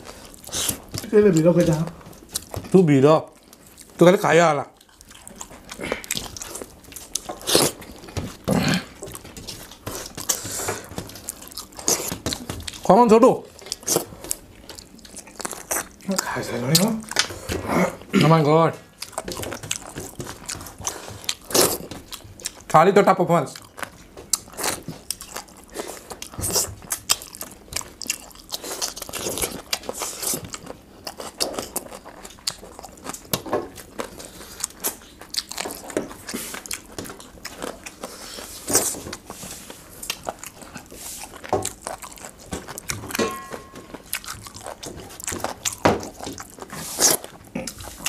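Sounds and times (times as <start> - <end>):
people chewing and crunching: 0.0 - 48.0.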